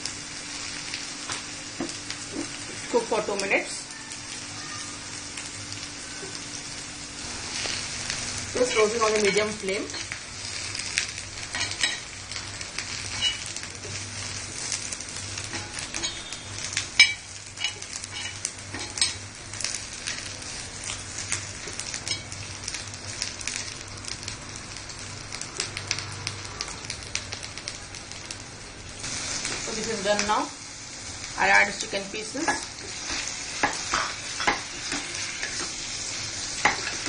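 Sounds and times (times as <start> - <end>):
vegetables sizzling on a hot pan: 0.0 - 37.0.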